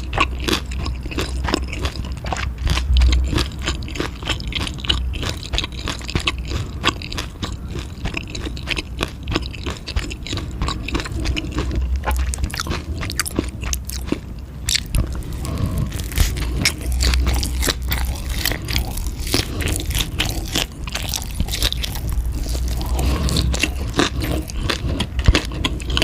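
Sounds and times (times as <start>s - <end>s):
crunchy chewing and biting: 0.0s - 26.0s.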